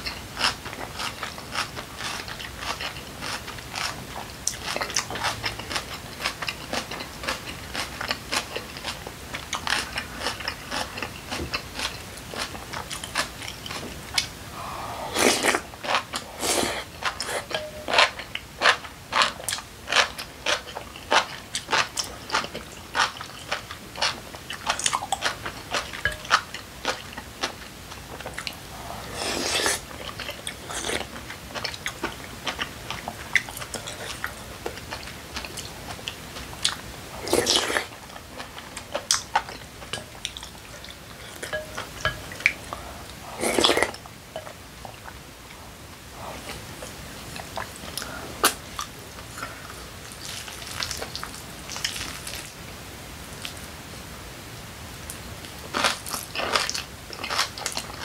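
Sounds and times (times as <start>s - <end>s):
crunchy chewing: 0.0s - 44.0s, 55.4s - 58.0s.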